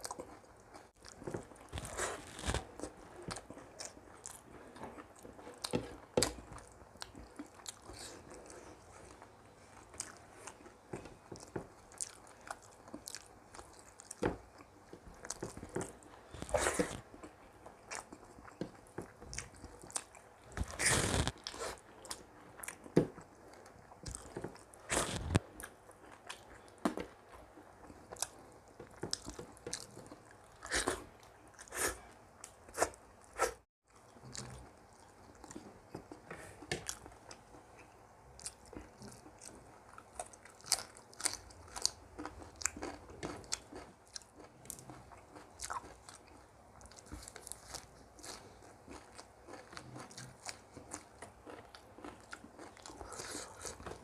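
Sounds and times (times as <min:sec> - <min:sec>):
person chewing crunchy food: 0:00.0 - 0:33.0, 0:33.9 - 0:54.0.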